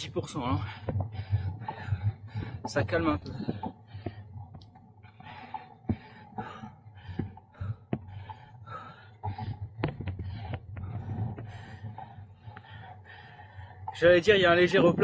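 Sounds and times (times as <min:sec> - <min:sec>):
runner breathing hard: 0:00.3 - 0:14.0.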